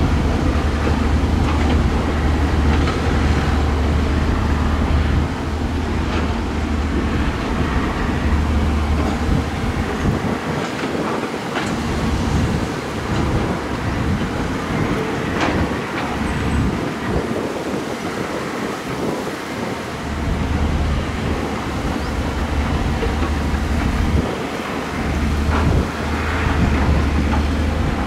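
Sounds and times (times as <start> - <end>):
diesel machine rumbling: 0.0 - 28.0.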